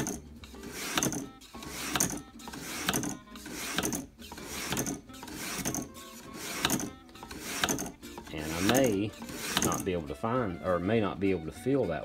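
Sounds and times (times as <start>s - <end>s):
knife scraping on sharpening stones: 0.0s - 10.0s.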